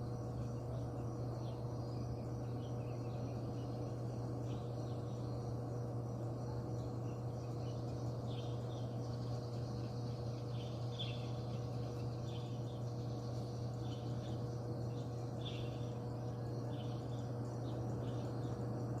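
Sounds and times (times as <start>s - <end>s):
faint constant tone: 0.0s - 19.0s
low mechanical hum: 0.0s - 19.0s.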